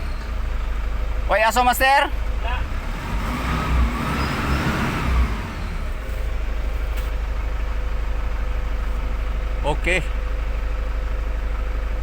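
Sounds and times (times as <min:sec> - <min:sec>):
diesel engine revving and idling: 0:00.0 - 0:12.0.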